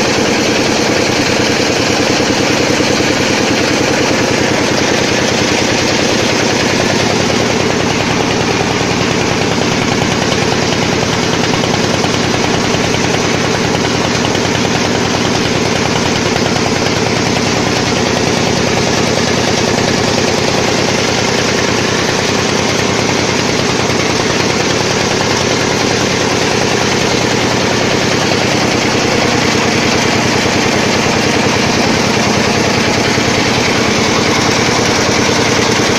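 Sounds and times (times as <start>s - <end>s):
boat engine pulsing: 0.0s - 35.9s.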